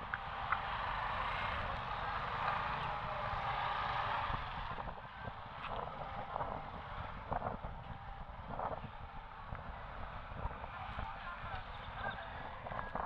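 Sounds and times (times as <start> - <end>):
motorcycle engines: 0.0 - 13.0
passing vehicles: 0.0 - 13.0.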